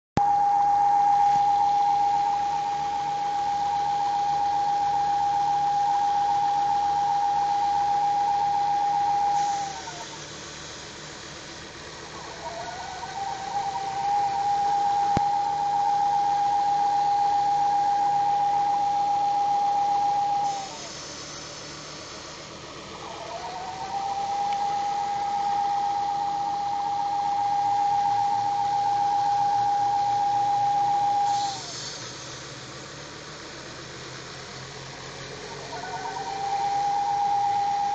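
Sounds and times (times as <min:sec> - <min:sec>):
high-pitched engine whine: 0:00.2 - 0:37.9.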